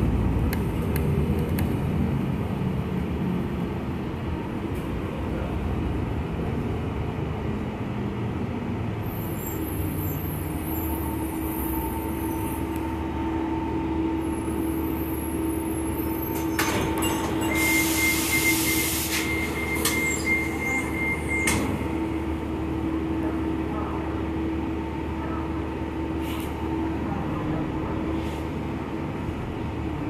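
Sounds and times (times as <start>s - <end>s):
bus engine drone: 0.0s - 30.0s.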